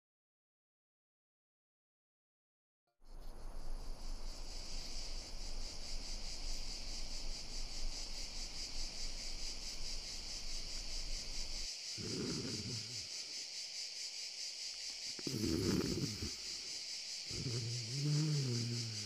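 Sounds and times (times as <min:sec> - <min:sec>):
cricket chirring: 0:03.0 - 0:19.0.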